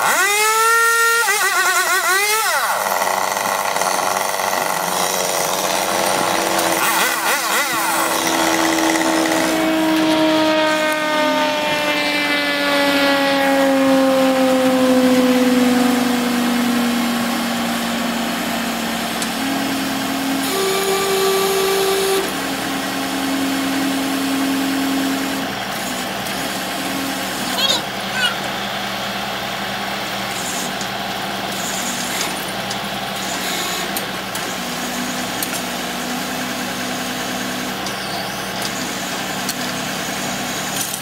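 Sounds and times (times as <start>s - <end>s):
crane engine running: 0.0s - 41.0s.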